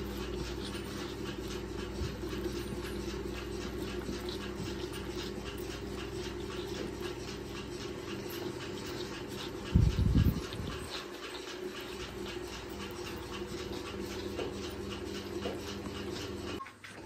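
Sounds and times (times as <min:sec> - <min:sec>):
calf sucking from bottle: 0:00.0 - 0:16.6.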